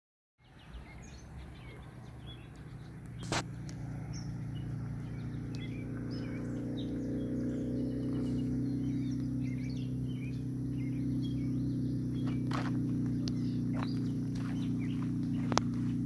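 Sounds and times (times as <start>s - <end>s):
songbirds chirping: 0.4s - 16.0s
low steady hum: 0.7s - 16.0s.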